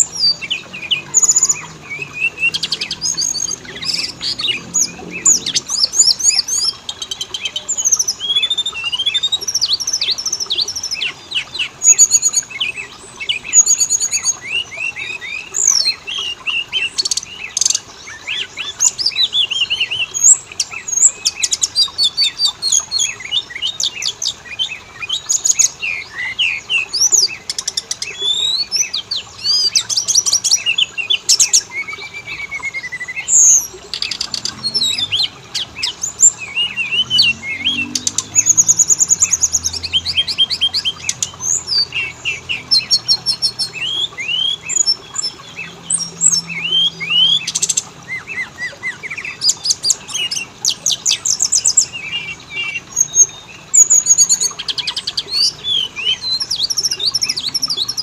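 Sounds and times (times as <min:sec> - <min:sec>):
songbird whistles and trills: 0:00.0 - 0:58.0.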